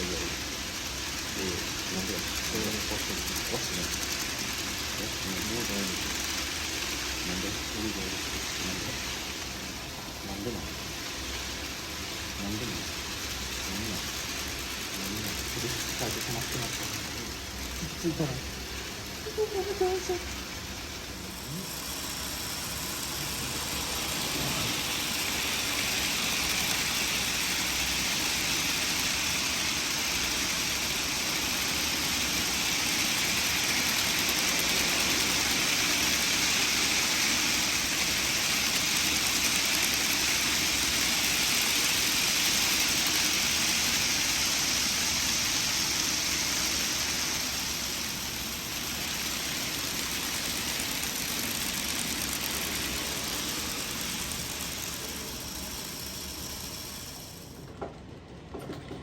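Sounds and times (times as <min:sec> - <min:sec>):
motor whine: 0:00.0 - 0:57.7
model train wheels rolling: 0:00.0 - 0:59.0.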